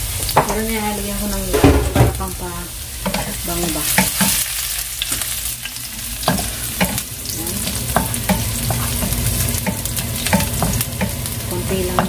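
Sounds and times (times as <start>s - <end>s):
garlic sizzling in a frying pan: 0.0s - 12.0s.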